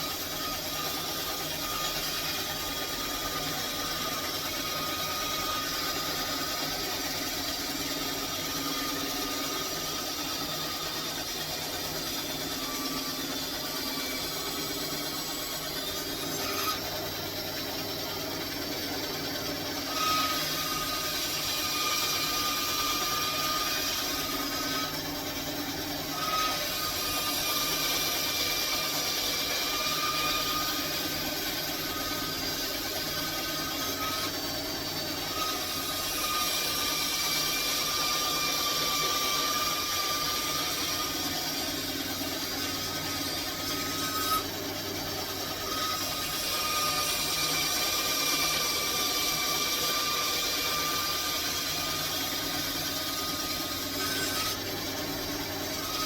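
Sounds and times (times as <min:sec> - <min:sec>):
power tool whining on wood: 0:00.0 - 0:56.0.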